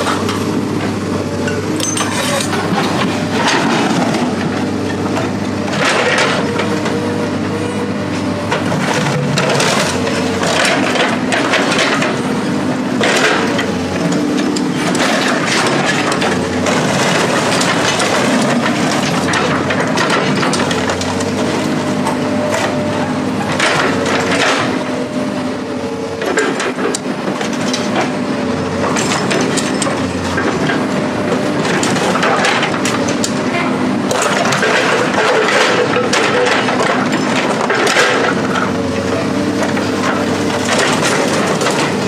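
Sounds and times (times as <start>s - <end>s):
heavy machine engine running: 0.0s - 42.0s.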